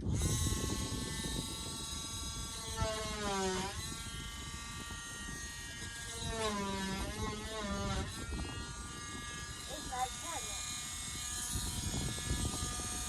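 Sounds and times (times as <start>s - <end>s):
electric power tool whining: 0.0s - 13.0s.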